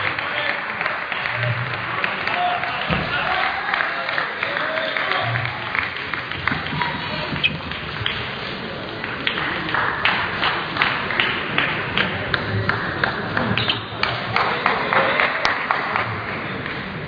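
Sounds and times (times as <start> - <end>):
steady hall hum: 0.0 - 17.0.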